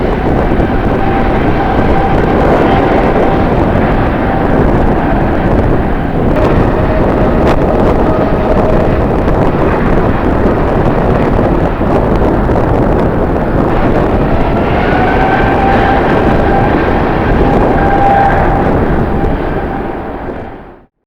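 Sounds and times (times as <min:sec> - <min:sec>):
jet engines whining: 0:00.0 - 0:20.9
wind buffeting microphone: 0:00.0 - 0:21.0.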